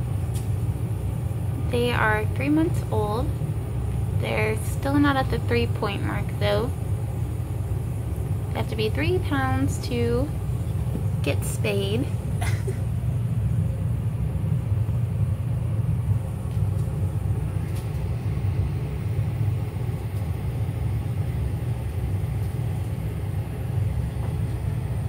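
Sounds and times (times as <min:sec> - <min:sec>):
central air system rumbling: 0:00.0 - 0:25.0.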